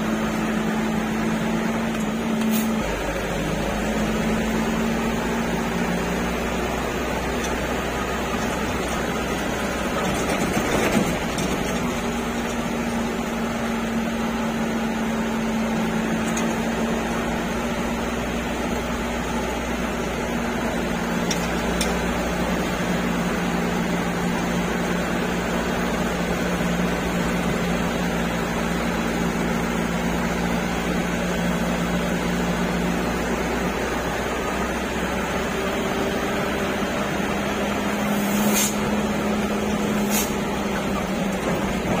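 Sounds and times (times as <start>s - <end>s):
road and cab hum: 0.0s - 42.0s
truck engine running: 0.0s - 42.0s.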